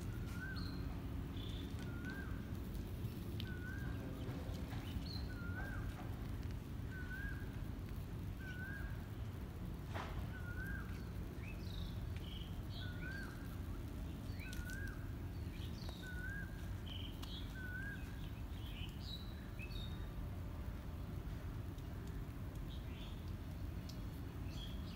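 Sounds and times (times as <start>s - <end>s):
low background noise: 0.0s - 24.9s.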